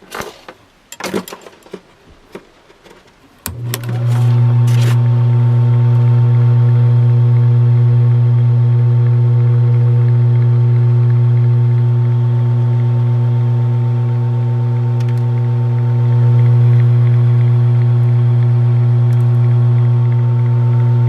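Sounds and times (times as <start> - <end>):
ceiling fan motor humming: 3.4 - 21.0.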